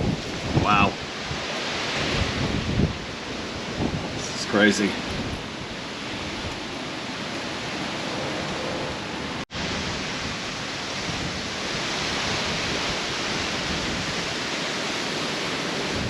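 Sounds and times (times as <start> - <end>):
wind and rain rushing: 0.0 - 16.0.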